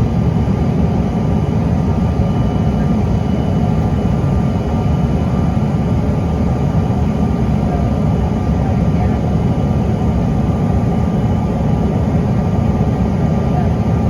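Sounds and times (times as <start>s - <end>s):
jet cabin engine rumble: 0.0s - 14.0s.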